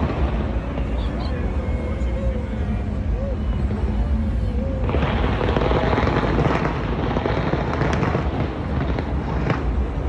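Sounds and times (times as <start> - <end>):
fireworks crackling: 0.0 - 10.0
low rumble of bursts: 0.0 - 10.0.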